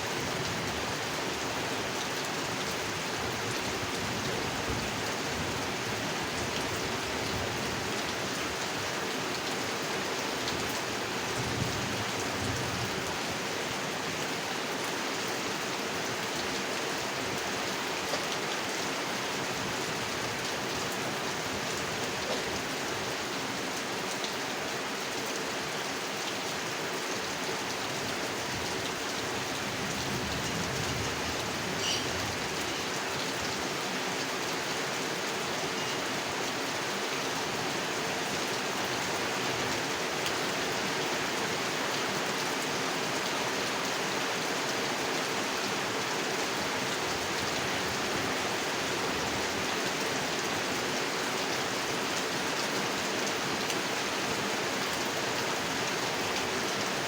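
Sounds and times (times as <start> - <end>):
rain pattering on a pond: 0.0 - 57.0.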